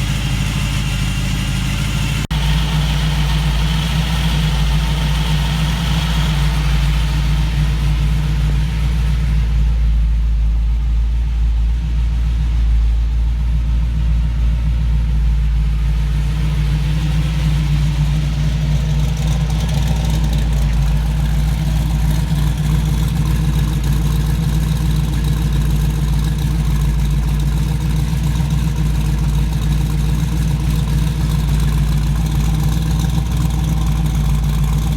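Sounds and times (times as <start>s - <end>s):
supercharged engine idling: 0.0s - 34.9s.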